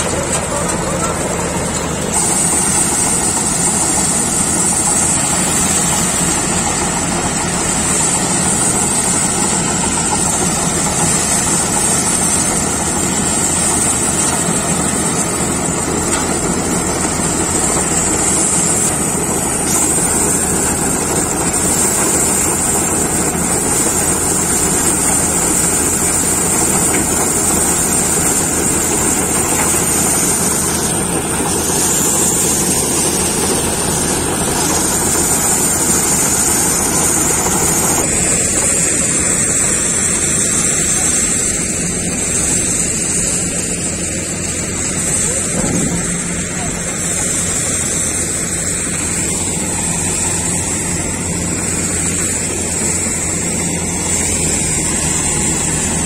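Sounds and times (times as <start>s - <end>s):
combine harvester machinery drone: 0.0s - 56.0s
high-pitched machine whine: 0.0s - 56.0s.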